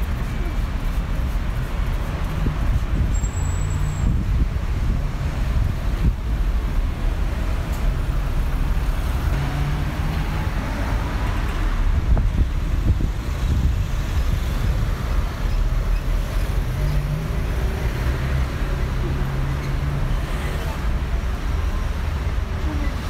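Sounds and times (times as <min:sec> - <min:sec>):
cars passing: 0:00.0 - 0:23.0.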